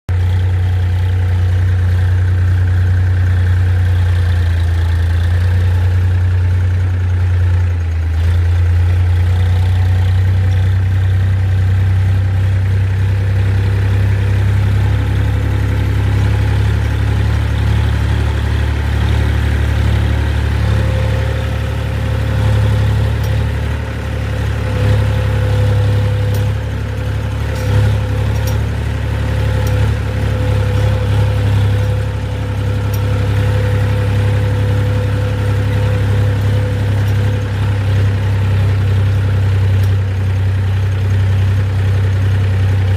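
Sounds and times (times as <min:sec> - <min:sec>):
motor engine humming: 0:00.1 - 0:42.9.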